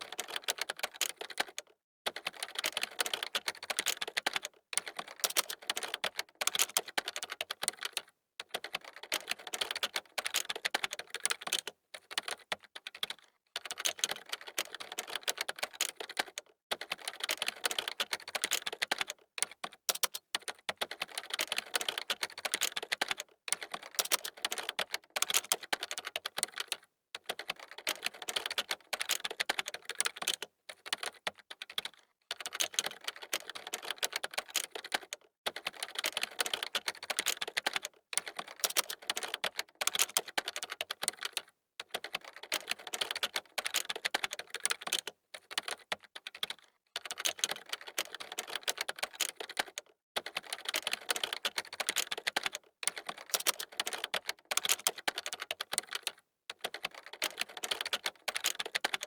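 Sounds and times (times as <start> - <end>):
fast typing on computer keyboard: 0.0 - 59.0.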